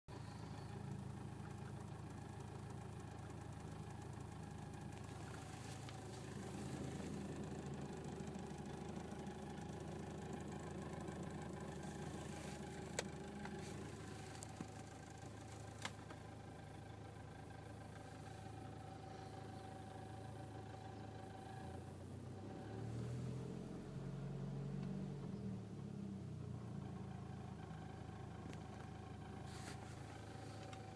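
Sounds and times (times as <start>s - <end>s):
car engine idling: 0.1s - 30.9s.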